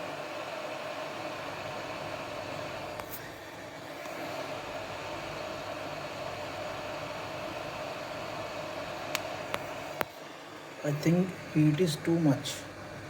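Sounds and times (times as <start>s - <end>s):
hot air blower hissing: 0.0s - 13.0s.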